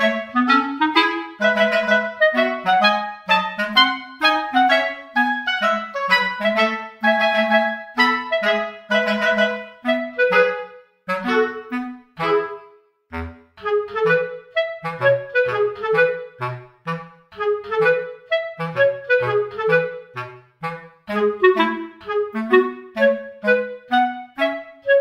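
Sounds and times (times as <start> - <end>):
bouncy woodwind tune: 0.0 - 25.0.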